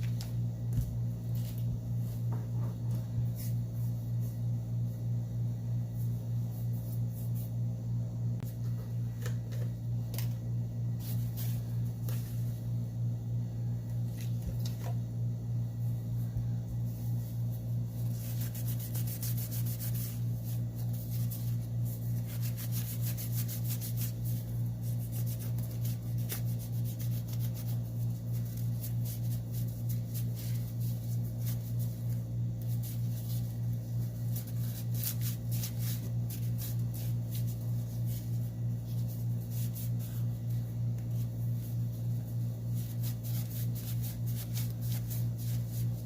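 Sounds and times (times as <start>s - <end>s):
pulsing electrical hum: 0.0s - 46.0s.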